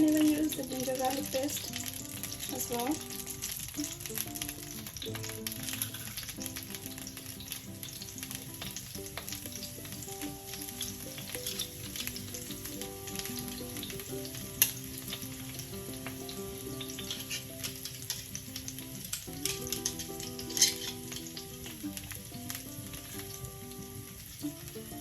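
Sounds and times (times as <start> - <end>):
utensil clicking against pan: 0.0 - 23.4
garlic sizzling in oil: 0.0 - 25.0
soft background melody: 0.0 - 25.0.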